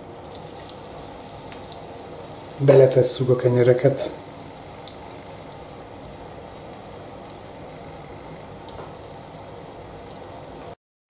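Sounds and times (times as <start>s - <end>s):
bread frying in oil: 0.0s - 10.8s.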